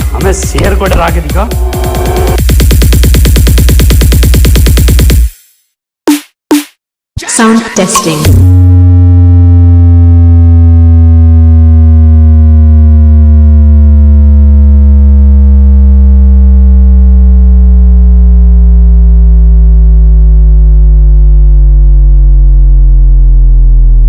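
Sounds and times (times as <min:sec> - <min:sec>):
synthesized bass sweep: 0:00.0 - 0:04.8, 0:08.2 - 0:24.0.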